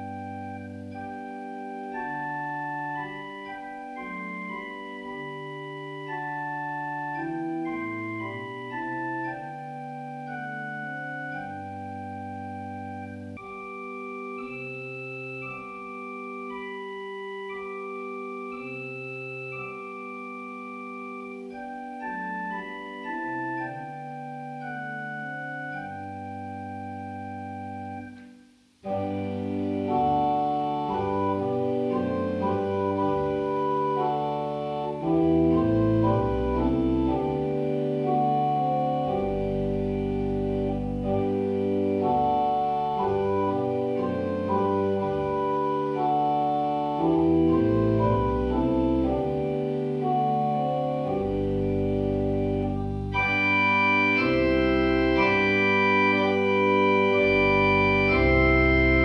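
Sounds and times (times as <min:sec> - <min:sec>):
organ playing a hymn: 0:00.0 - 0:59.0.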